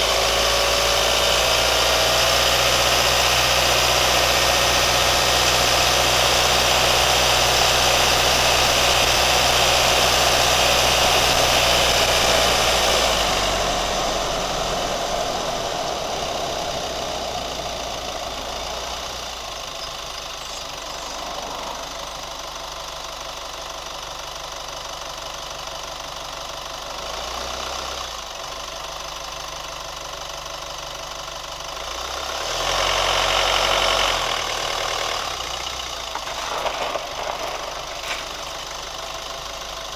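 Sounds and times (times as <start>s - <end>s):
pickup engine revving and idling: 0.0s - 23.9s, 26.7s - 28.7s, 31.6s - 39.9s.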